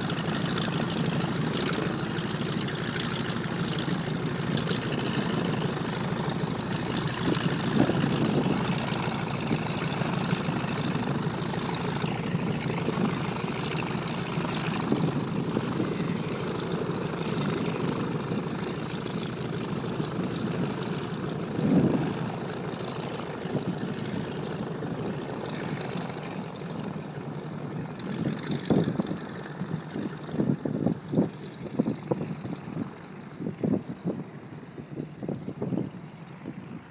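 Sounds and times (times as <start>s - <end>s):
radial aircraft engine running: 0.0s - 36.9s.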